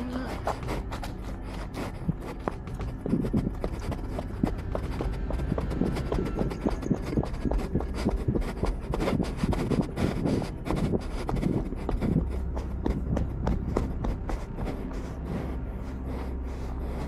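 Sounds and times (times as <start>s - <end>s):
low rumble: 0.0s - 17.0s
running footsteps on pavement: 0.0s - 17.0s.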